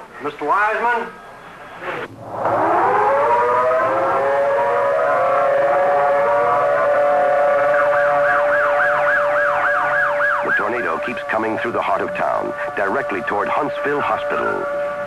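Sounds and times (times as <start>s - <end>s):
warning siren winding up: 1.9s - 15.0s
fast-wailing vehicle siren: 2.1s - 15.0s.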